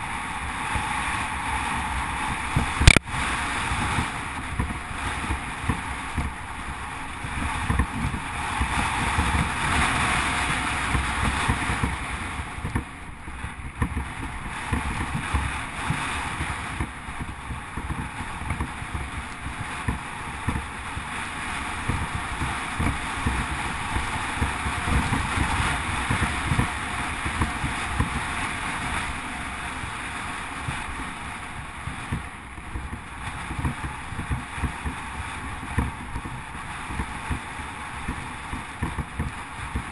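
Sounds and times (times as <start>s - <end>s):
bike jolts and rattles: 0.0s - 39.9s
bike tyres rumbling on gravel: 0.0s - 39.9s
wind noise on microphone: 0.0s - 39.9s.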